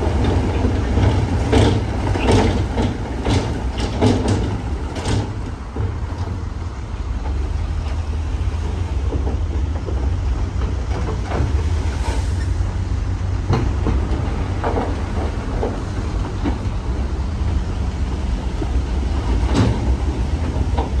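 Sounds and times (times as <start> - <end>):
metallic clanks and knocks: 0.0 - 6.4, 7.2 - 11.8, 13.4 - 21.0
diesel machinery rumbling: 0.0 - 21.0.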